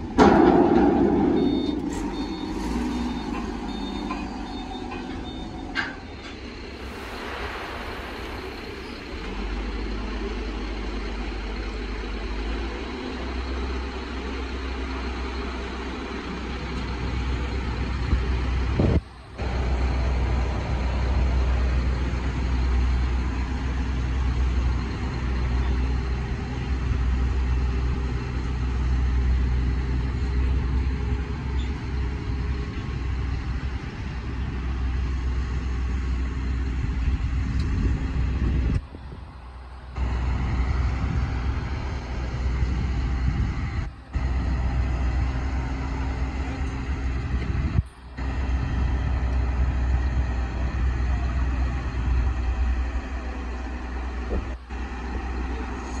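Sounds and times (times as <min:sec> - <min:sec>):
crane diesel engine running: 0:00.0 - 0:56.0.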